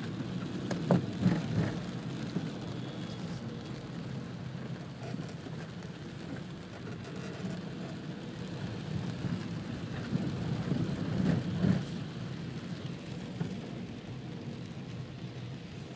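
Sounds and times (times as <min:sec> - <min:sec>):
heavy rain on car windshield: 0:00.0 - 0:15.9.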